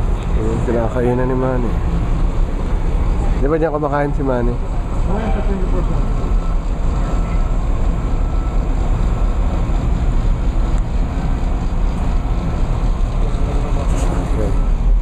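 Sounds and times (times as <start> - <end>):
vehicle and road rumble: 0.0 - 15.0.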